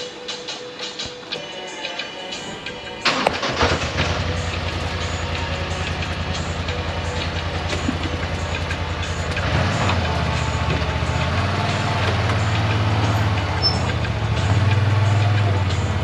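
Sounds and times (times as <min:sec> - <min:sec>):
atv engine running: 0:03.1 - 0:16.0.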